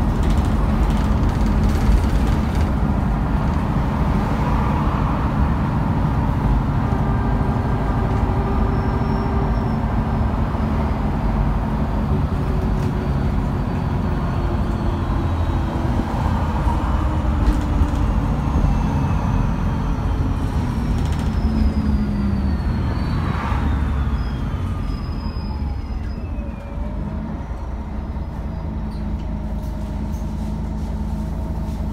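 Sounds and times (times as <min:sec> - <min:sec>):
bus diesel engine drone: 0:00.0 - 0:31.9
road noise: 0:00.0 - 0:31.9.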